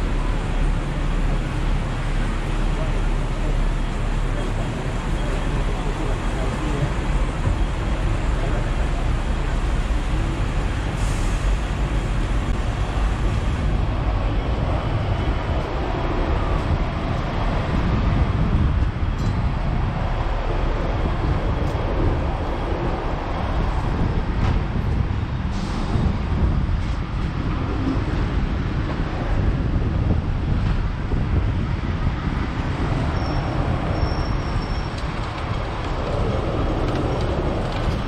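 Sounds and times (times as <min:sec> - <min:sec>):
street traffic: 0:00.0 - 0:38.0
tram wheels rumbling on rails: 0:00.0 - 0:38.0.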